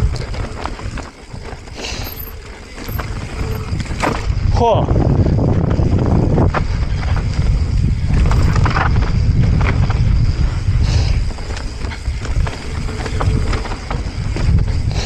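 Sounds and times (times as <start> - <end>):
bike rattling clicks and knocks: 0.0 - 4.5, 5.1 - 15.0
tyres rolling over dirt and rocks: 0.0 - 15.0
wind rumbling on microphone: 0.0 - 15.0.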